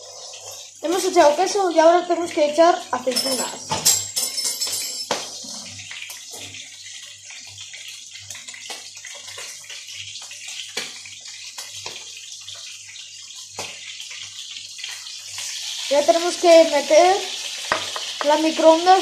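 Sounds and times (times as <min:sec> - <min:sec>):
running water hiss: 0:00.0 - 0:03.8, 0:05.3 - 0:19.0.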